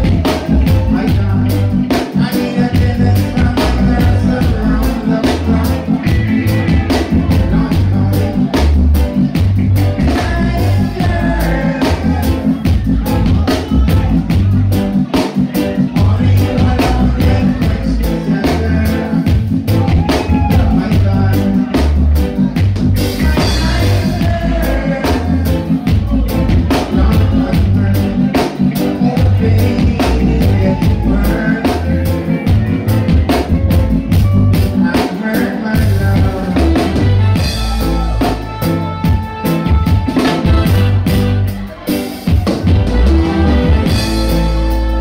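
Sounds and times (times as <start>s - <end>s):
heavy bass line: 0.0s - 45.0s
music with steady drum beat: 0.0s - 45.0s.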